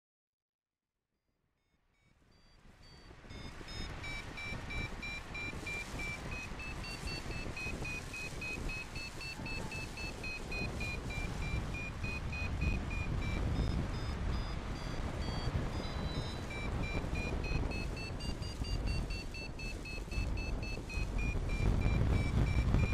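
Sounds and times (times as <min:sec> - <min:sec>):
variometer beeping: 0:02.3 - 0:22.9
wind on microphone: 0:02.6 - 0:22.9.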